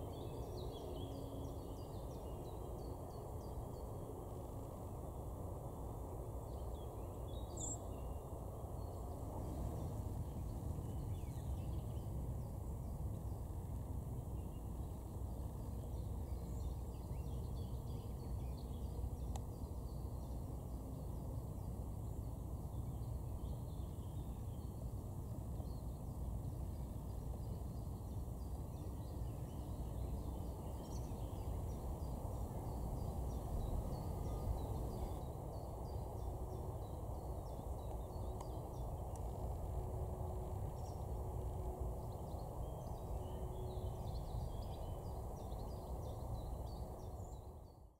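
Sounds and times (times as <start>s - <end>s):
low outdoor rumble: 0.0s - 47.4s.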